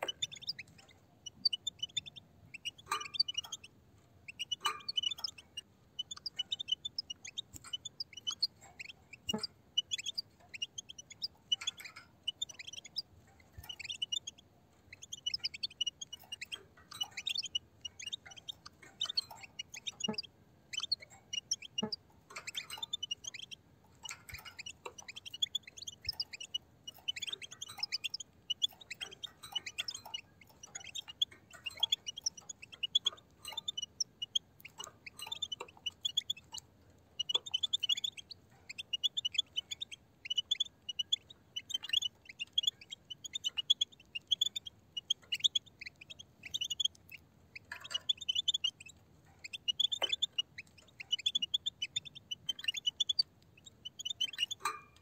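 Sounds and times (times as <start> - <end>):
birds twittering: 0.0 - 55.0.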